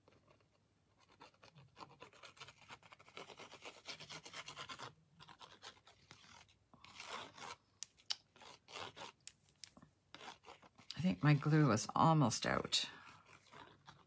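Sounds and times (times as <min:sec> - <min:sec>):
glue bottle tip scratching card: 0:00.0 - 0:11.7, 0:13.0 - 0:14.0.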